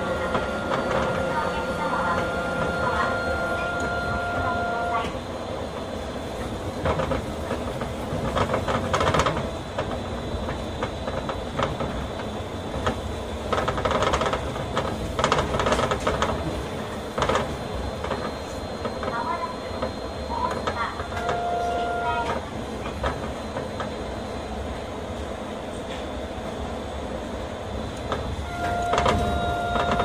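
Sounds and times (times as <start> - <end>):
train clacks and rattles: 0.0 - 30.0
train running rumble: 0.0 - 30.0.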